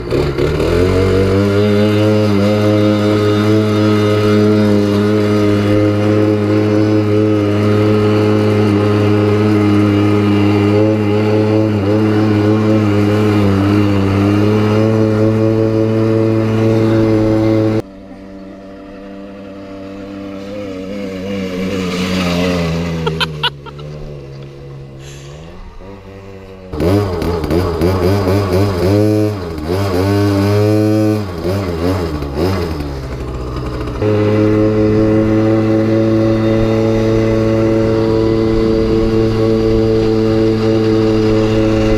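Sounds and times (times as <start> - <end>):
two-stroke engine running: 0.0 - 41.9.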